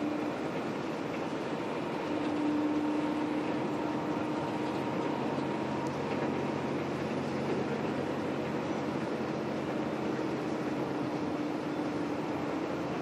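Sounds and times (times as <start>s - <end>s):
humming tone: 0.0s - 12.9s
coach cabin running noise: 0.0s - 13.0s.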